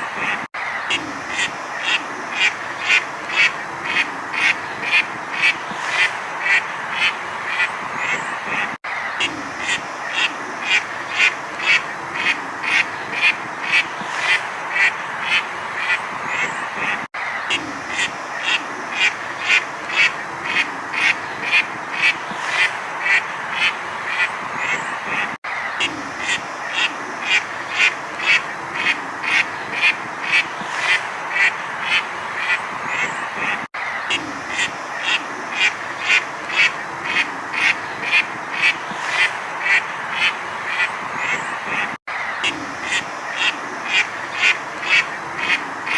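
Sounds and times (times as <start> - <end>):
duck quacking: 0.0 - 45.9.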